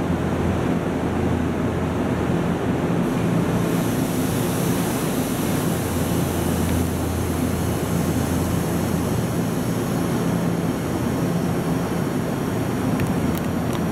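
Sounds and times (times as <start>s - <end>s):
electric train rumbling: 0.0s - 13.9s.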